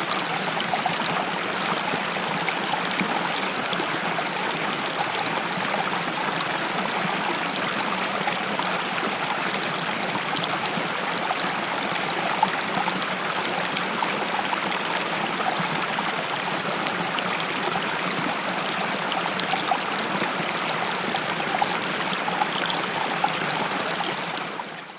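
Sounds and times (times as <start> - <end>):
river water flowing over rocks: 0.0 - 24.9.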